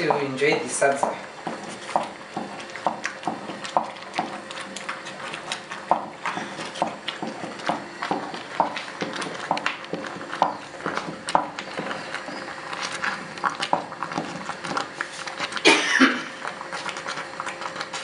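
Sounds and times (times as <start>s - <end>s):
spoon scraping pot: 0.0s - 15.6s
porridge bubbling and plopping: 0.0s - 18.0s.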